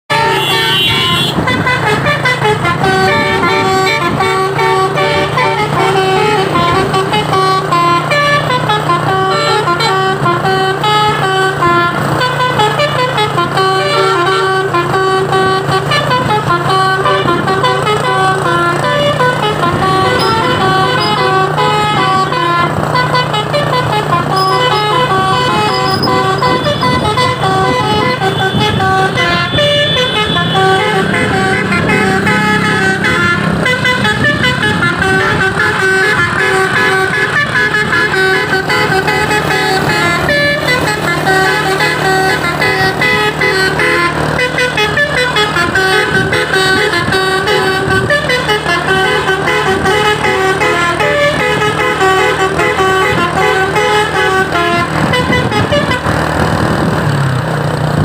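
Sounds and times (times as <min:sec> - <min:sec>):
truck musical horn playing a tune: 0:00.1 - 0:57.4.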